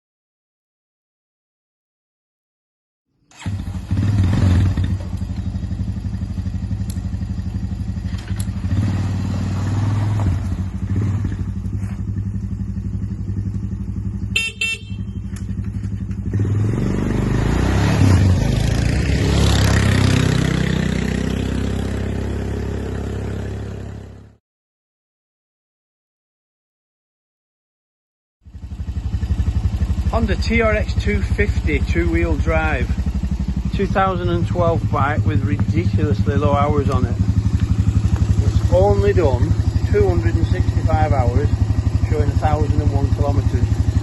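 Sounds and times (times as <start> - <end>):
quad bike engine running: 3.4 - 24.4, 28.4 - 44.0.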